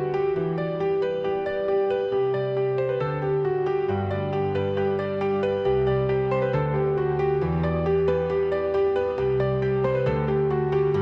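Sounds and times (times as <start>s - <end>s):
soft piano instrumental: 0.0s - 11.0s.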